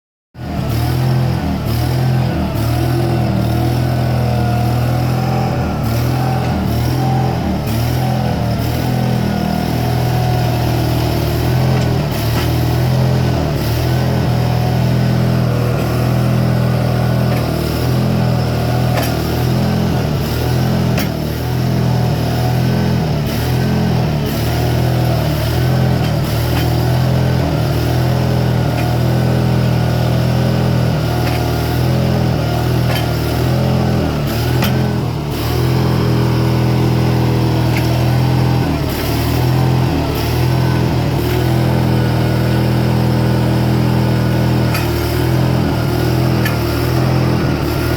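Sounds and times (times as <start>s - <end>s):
skid steer running under load: 0.4s - 47.9s.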